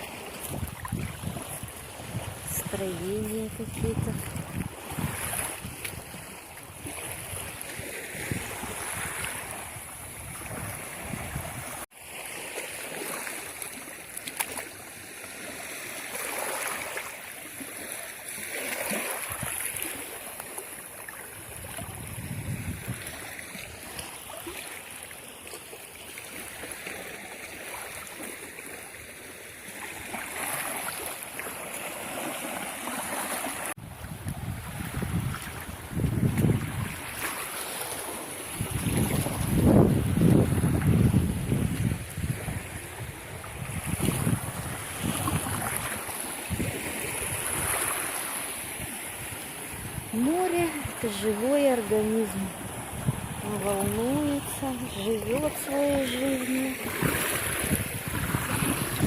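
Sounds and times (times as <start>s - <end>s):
surf washing onto beach: 0.0s - 59.0s.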